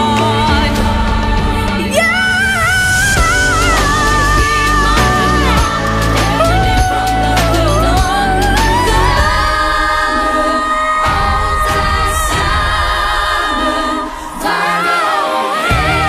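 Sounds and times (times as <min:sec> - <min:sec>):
pop backing track: 0:00.0 - 0:16.0.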